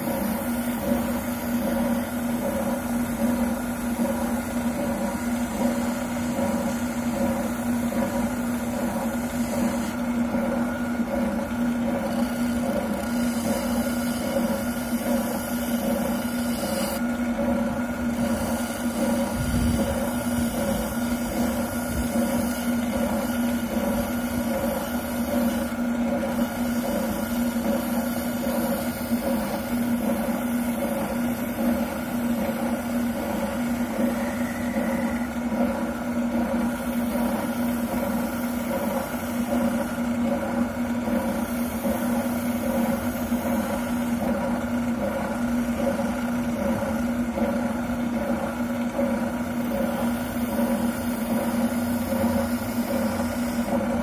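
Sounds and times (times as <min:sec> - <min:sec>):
oscillating sander running: 0:00.0 - 0:54.0.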